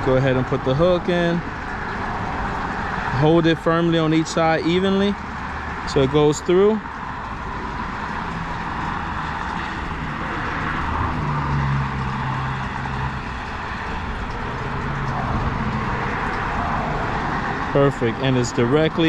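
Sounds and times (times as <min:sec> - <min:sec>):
passing vehicle engine hum: 0:00.0 - 0:19.0.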